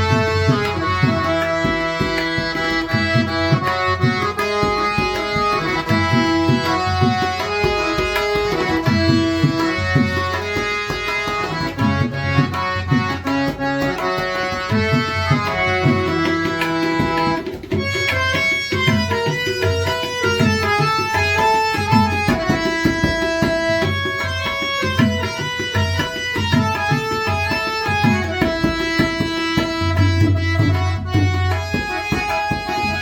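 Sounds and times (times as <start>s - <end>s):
harmonium melody: 0.0s - 33.0s
tabla: 0.0s - 33.0s.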